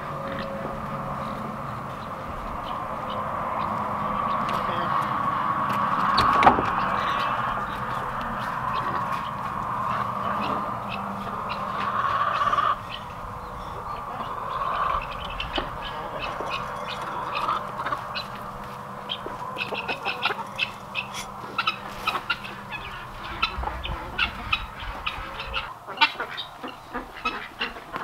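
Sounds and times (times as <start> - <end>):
poultry calling: 0.0 - 28.0.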